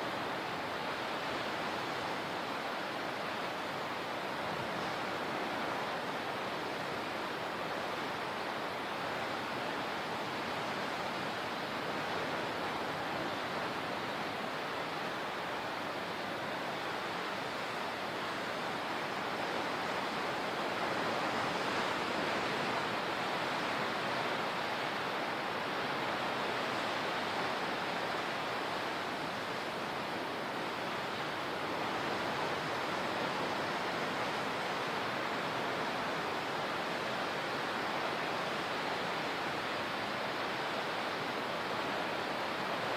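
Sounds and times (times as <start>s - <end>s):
rushing water: 0.0s - 42.9s.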